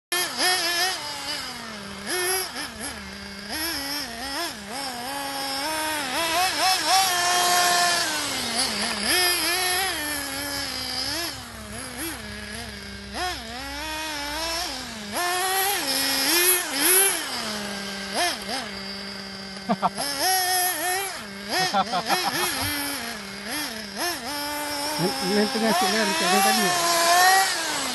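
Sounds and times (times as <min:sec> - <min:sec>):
model car engine revving: 0:00.1 - 0:27.9.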